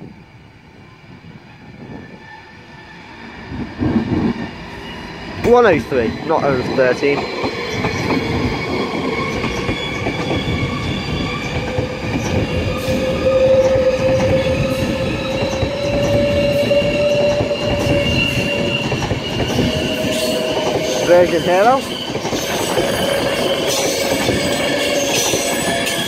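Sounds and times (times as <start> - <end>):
train wheels rumbling on rails: 1.1 - 26.0.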